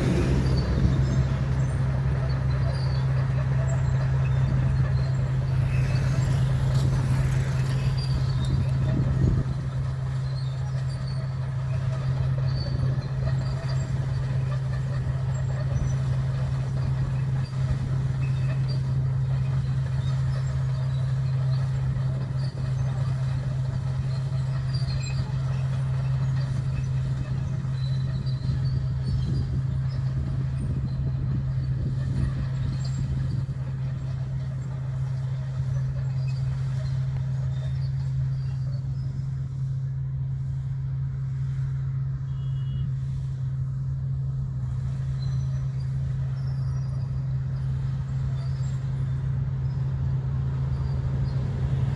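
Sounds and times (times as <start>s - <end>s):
bulldozer diesel engine droning: 0.0s - 51.9s.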